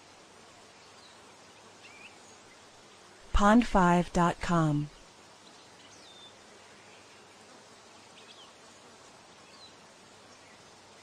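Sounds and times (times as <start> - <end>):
meadow ambience: 0.0 - 11.0.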